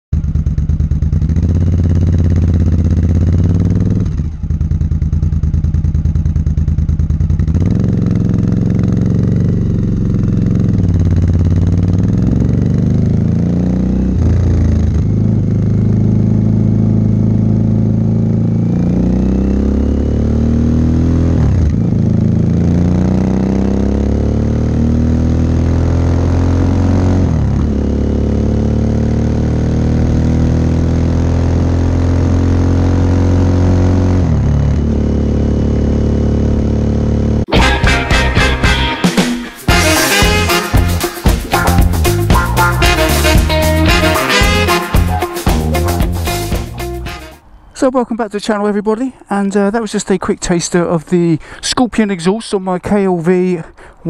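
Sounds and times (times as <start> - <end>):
motorcycle engine accelerating: 0.1 - 47.5.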